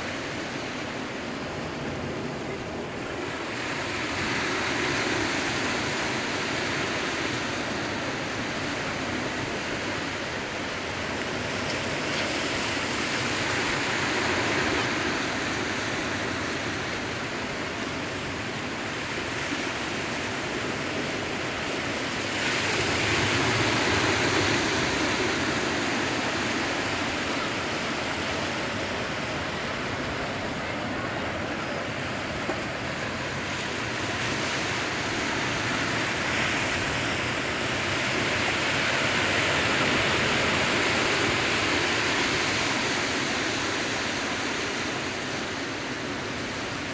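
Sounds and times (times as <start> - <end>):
sea waves washing in: 0.0 - 46.9.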